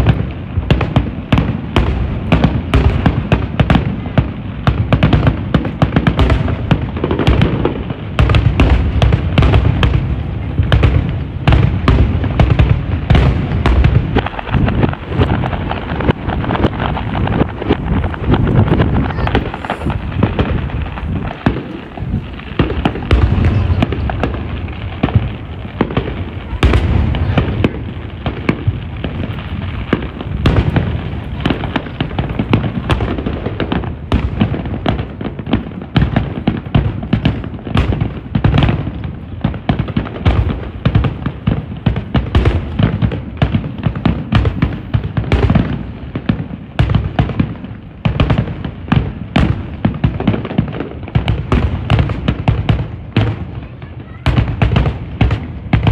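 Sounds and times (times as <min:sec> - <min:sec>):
fireworks booming: 0:00.0 - 0:55.9
fireworks crackling: 0:00.0 - 0:55.9.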